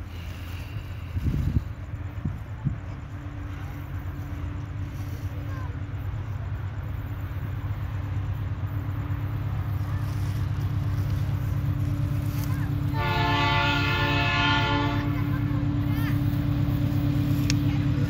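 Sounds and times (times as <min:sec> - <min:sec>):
diesel locomotive drone: 0:00.0 - 0:18.0.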